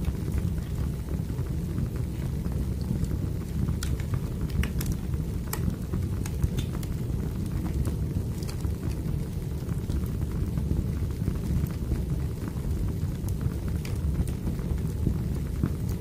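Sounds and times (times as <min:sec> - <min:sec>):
fire crackling and popping: 0:00.0 - 0:16.0
wood fire rushing: 0:00.0 - 0:16.0.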